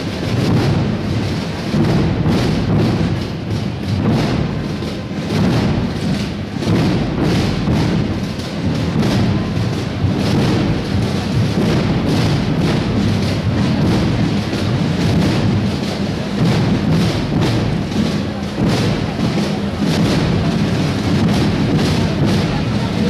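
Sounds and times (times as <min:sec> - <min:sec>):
marching band drums: 0:00.0 - 0:23.0.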